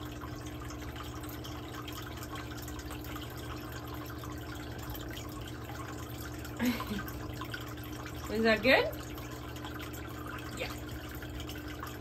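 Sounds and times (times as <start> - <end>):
trickle of running water: 0.0 - 12.0.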